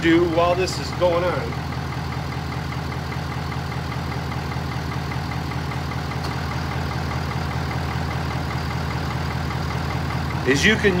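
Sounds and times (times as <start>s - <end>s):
air conditioning running: 0.0s - 11.0s
diesel engine idling with ticking: 0.0s - 11.0s.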